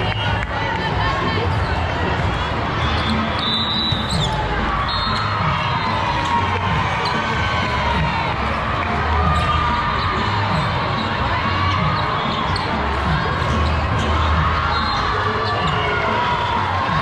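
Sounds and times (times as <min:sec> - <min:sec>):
many voices in a hall: 0:00.0 - 0:17.0.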